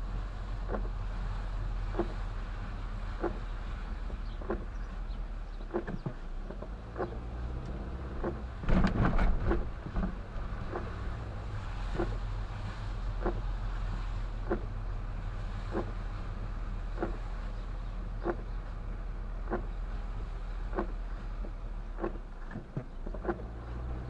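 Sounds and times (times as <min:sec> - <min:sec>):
car engine and tyres rumbling: 0:00.0 - 0:24.0
rain: 0:00.0 - 0:24.0
windshield wipers sweeping: 0:00.0 - 0:24.0.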